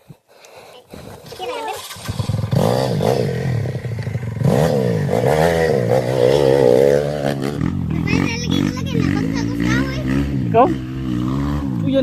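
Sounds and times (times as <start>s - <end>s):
dirt bike engine revving: 1.0s - 12.0s.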